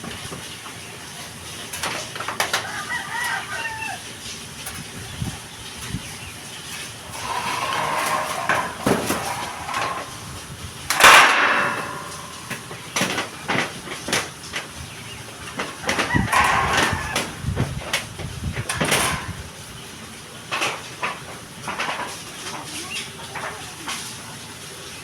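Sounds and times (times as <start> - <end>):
knocks and clatter on metal: 1.6 - 3.5, 4.6 - 19.6, 20.4 - 23.7.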